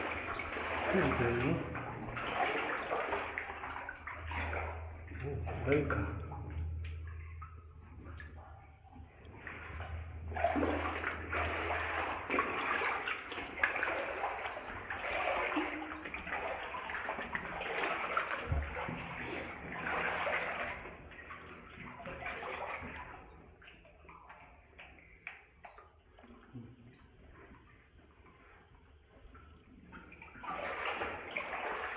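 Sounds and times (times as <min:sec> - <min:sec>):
wading through water: 0:00.0 - 0:31.9
water trickling: 0:00.0 - 0:31.9.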